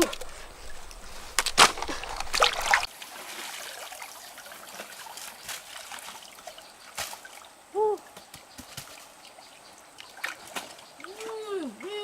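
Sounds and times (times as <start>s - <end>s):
water splashing: 0.0s - 12.0s
water trickling and dripping: 0.0s - 12.0s.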